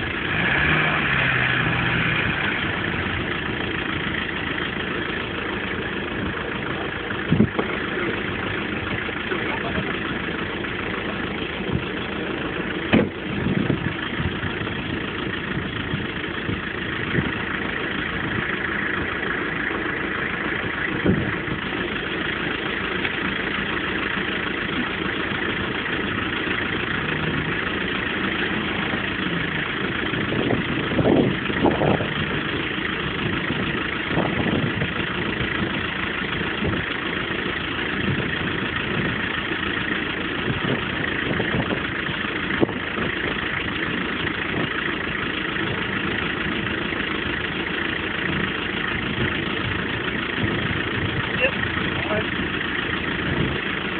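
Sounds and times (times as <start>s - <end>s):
engine surges or knocks: 0.0s - 53.9s
off-road engine idling: 0.0s - 53.9s.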